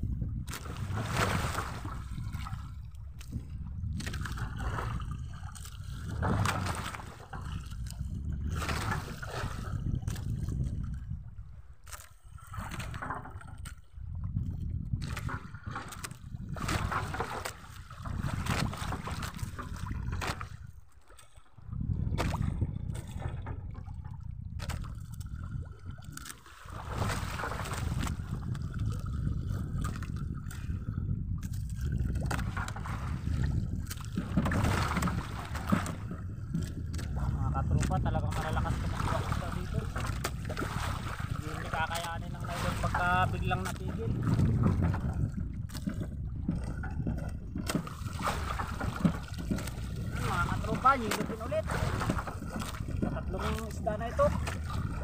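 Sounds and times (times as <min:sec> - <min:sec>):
water lapping against boat hull: 0:00.0 - 0:55.0
wind rumble on microphone: 0:00.0 - 0:55.0.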